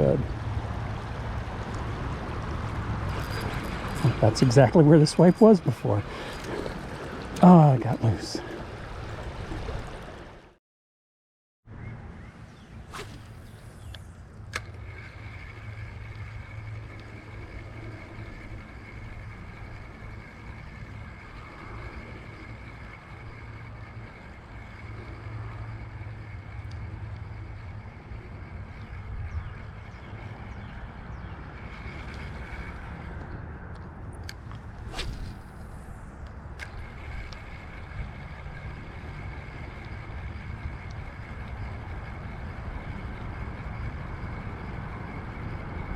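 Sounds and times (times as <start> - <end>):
road traffic rumble: 0.0 - 10.6, 11.7 - 45.9.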